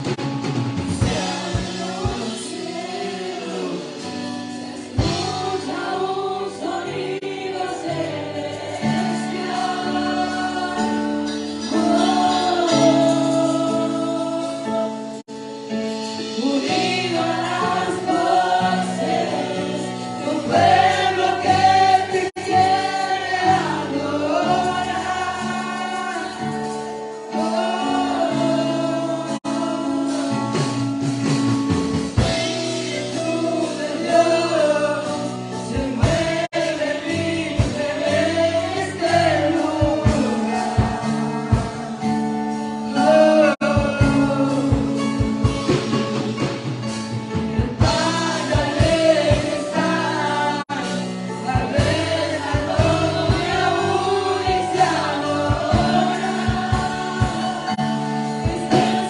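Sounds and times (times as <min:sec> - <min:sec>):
sustained instrumental backing: 0:00.0 - 0:59.0
voices singing worship song: 0:00.0 - 0:59.0.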